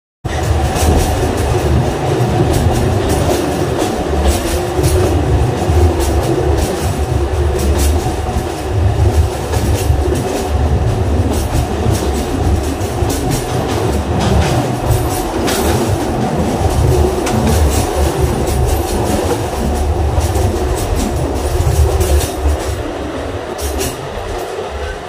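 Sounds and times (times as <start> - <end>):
train rumbling in a tunnel: 0.2 - 25.0
wheels clacking on rails: 0.2 - 25.0.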